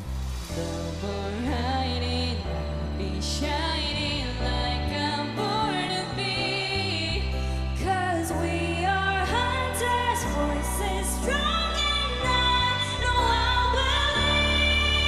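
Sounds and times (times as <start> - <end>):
pop backing track with heavy bass: 0.0 - 15.0.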